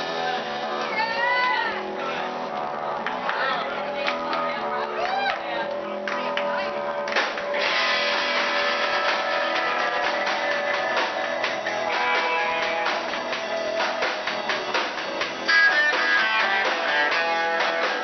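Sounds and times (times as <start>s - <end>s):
drum kit: 0.0s - 3.4s, 6.0s - 18.0s
electric guitars strumming: 0.0s - 18.0s
higher guitar line: 0.0s - 18.0s.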